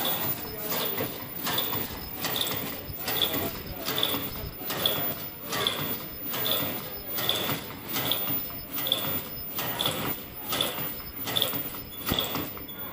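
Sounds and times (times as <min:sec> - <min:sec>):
machine mechanical clatter: 0:00.0 - 0:12.9
high chirp and click: 0:00.3 - 0:05.8, 0:08.0 - 0:12.9.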